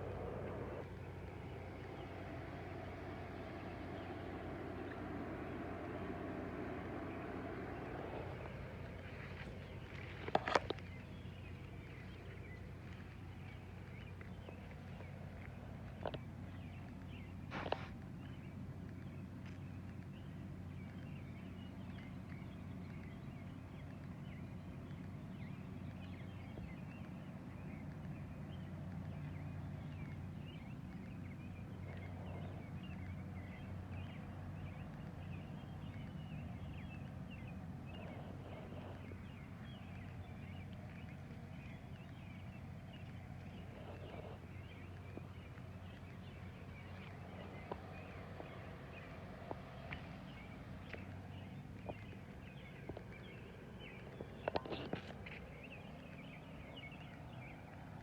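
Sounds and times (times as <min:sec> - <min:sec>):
small birds chirping: 0:00.0 - 0:58.0
steady low hum: 0:00.0 - 0:58.0.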